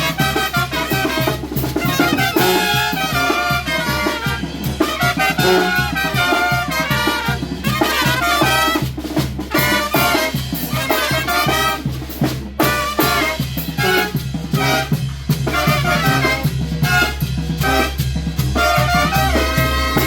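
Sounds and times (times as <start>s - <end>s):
brass band playing: 0.0s - 20.0s
drums with steady beat: 0.0s - 20.0s.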